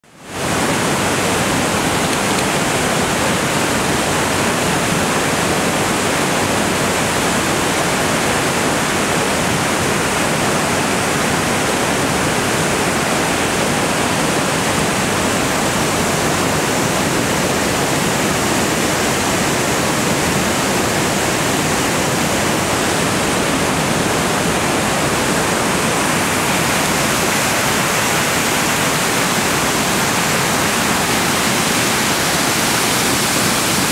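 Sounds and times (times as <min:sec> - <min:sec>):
water rushing over rocks: 0:00.0 - 0:33.9.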